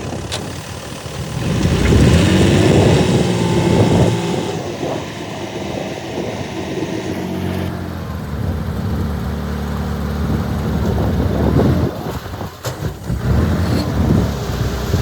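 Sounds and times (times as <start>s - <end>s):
diesel engine working under load: 0.0s - 15.0s.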